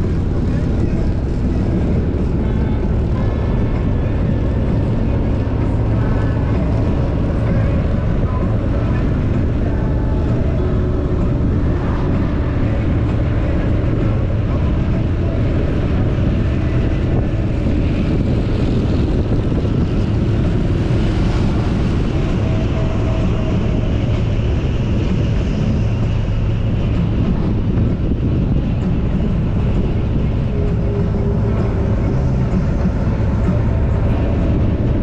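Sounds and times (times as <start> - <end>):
motorcycle engine drone: 0.0 - 35.0
wind rushing across microphone: 0.0 - 35.0.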